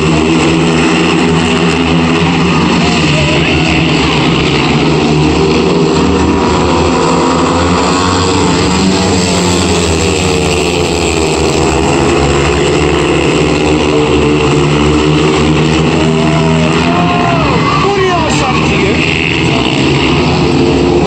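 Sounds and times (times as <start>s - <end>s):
motorcycle engines racing: 0.0s - 21.0s.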